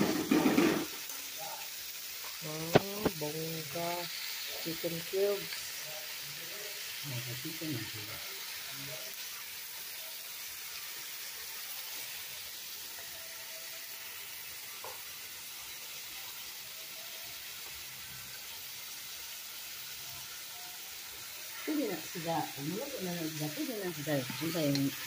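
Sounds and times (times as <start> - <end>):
chicken sizzling in a pot: 0.0 - 25.0.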